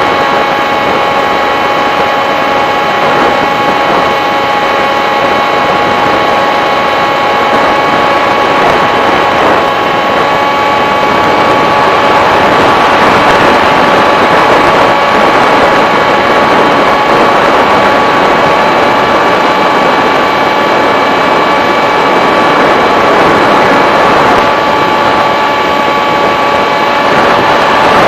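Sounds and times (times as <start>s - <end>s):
model aircraft motor whining: 0.0s - 28.0s
rushing air: 0.0s - 28.0s.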